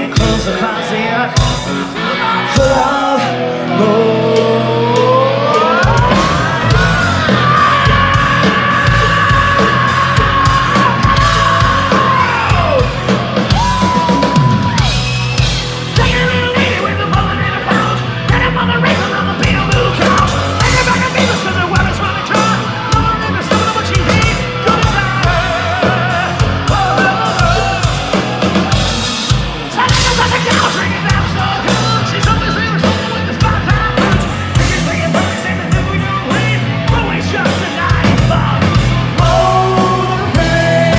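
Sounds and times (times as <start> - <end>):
hard rock band playing: 0.0 - 40.9.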